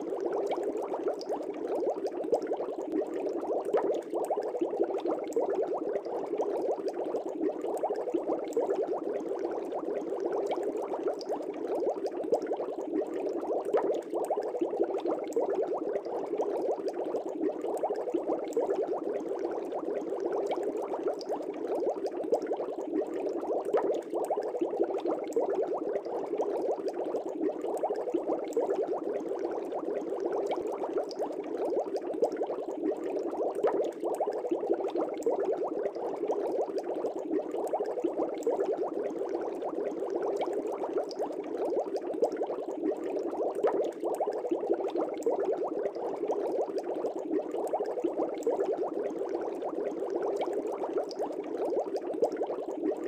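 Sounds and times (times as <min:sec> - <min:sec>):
air bubbling in fish tank water: 0:00.0 - 0:53.0.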